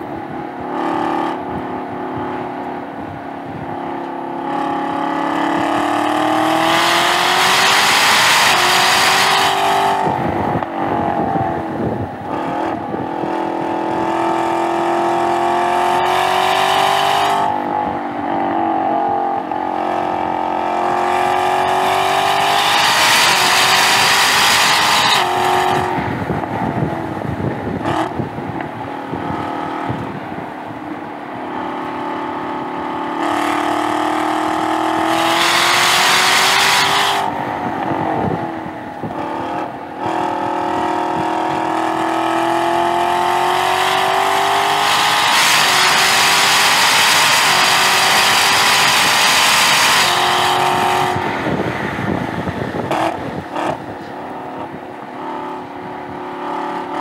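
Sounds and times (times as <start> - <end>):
car engine revving at full throttle: 0.0 - 57.0.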